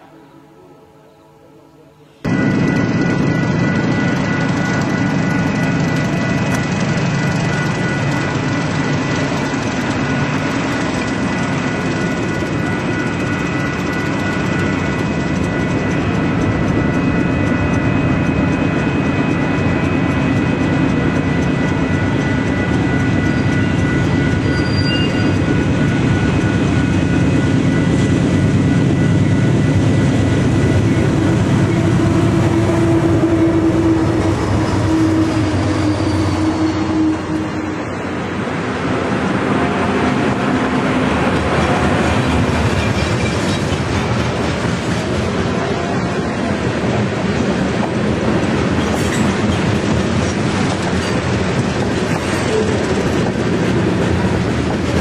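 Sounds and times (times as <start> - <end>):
steady high tones: 0.0 - 45.2
freight train rumbling past: 0.0 - 55.0.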